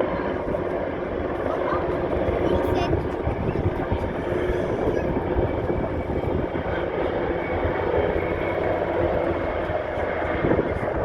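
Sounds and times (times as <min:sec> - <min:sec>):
helicopters flying over: 0:00.0 - 0:11.0.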